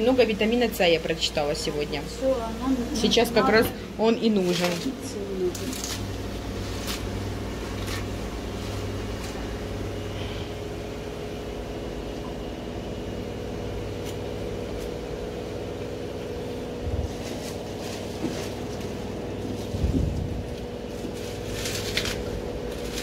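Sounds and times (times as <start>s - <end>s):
range hood fan humming: 0.0s - 23.0s.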